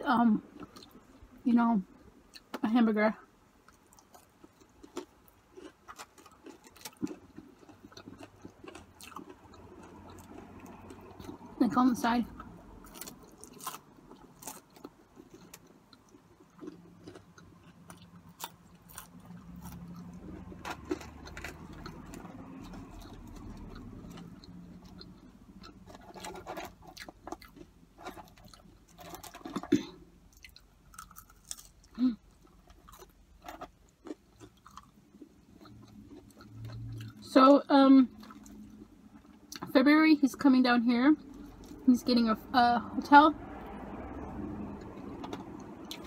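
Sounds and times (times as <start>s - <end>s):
chewing fries: 0.1s - 2.8s, 3.5s - 40.4s, 41.2s - 42.4s, 43.4s - 46.0s.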